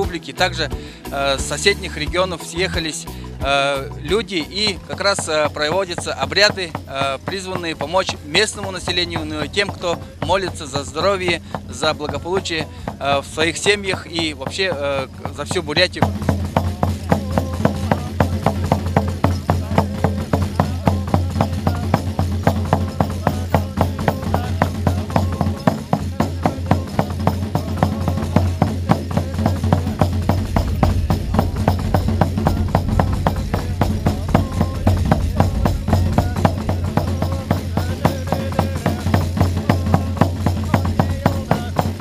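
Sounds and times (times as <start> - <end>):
frame drums beaten in rhythm: 0.0 - 42.0.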